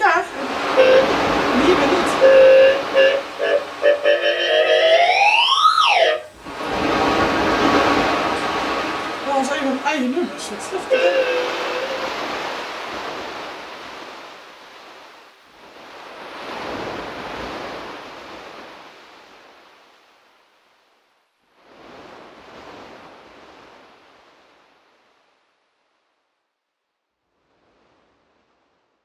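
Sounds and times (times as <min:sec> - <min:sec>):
ocean surf waves: 0:00.0 - 0:26.1, 0:27.3 - 0:28.8.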